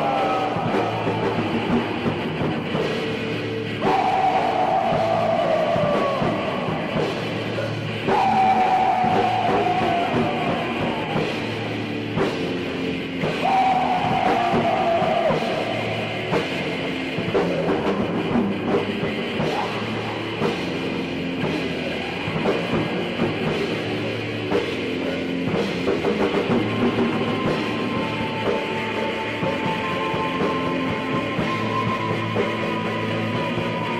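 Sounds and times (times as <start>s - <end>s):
black metal song with drums: 0.0s - 33.9s.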